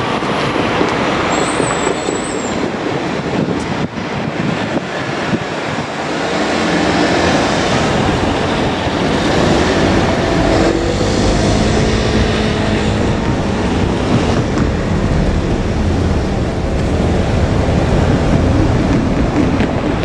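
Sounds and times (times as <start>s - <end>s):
loud rushing noise: 0.0s - 20.0s
railcar engine and wheels: 0.0s - 20.0s.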